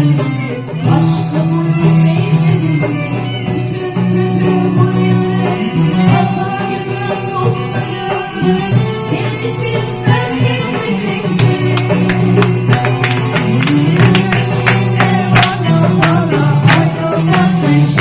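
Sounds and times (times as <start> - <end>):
song with singing and beat: 0.0 - 18.0.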